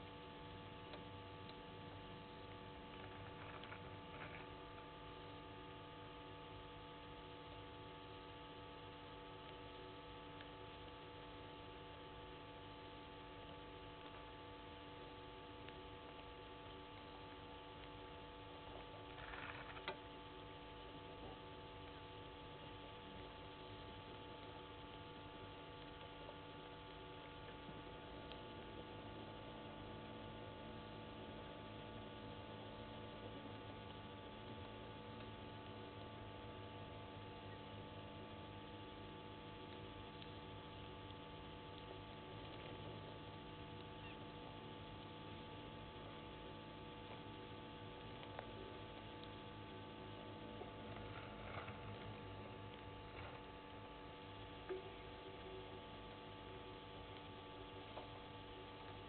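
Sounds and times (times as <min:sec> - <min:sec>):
faint electrical hum and hiss: 0:00.0 - 0:59.0.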